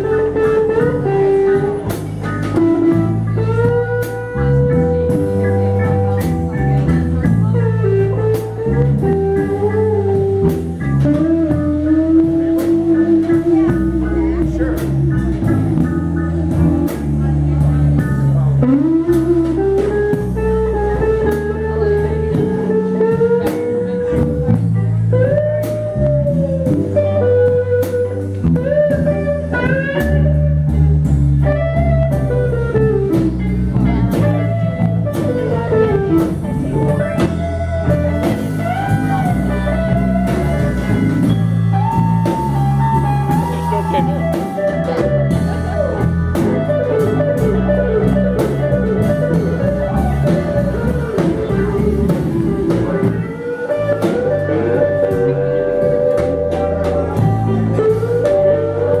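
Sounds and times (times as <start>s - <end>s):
blues band playing: 0.0s - 59.0s
lead guitar bending notes: 0.0s - 59.0s.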